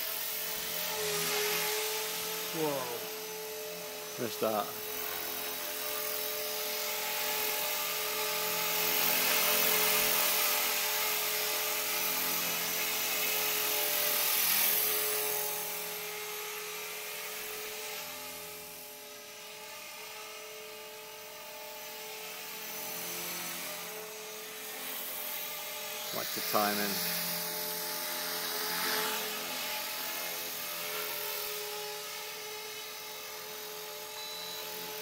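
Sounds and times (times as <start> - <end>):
rc helicopter motor whine: 0.0 - 35.0.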